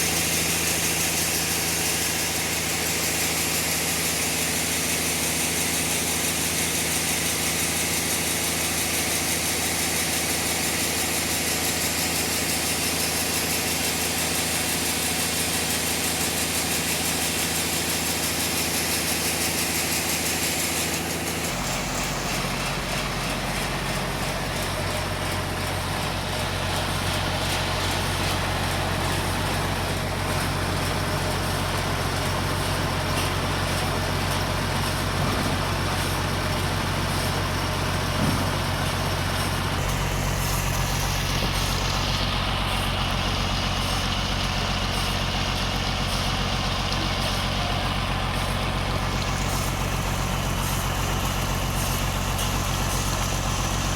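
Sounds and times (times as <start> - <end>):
sawmill machinery drone: 0.0 - 53.9.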